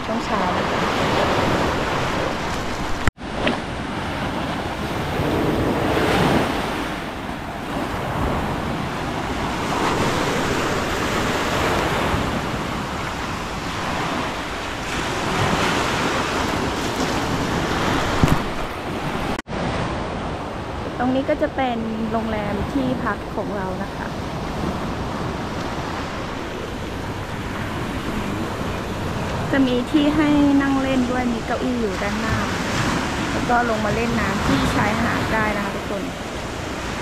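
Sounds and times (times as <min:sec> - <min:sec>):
small waves breaking on beach: 0:00.0 - 0:21.5, 0:22.1 - 0:37.0
wind rumbling on microphone: 0:00.0 - 0:37.0.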